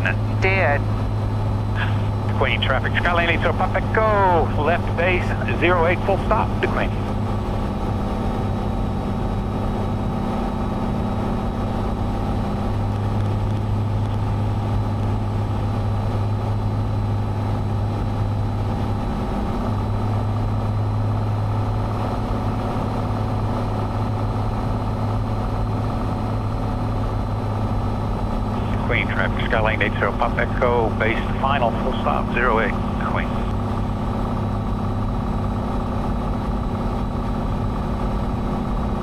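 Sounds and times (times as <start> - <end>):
propeller plane engine droning: 0.0 - 39.0.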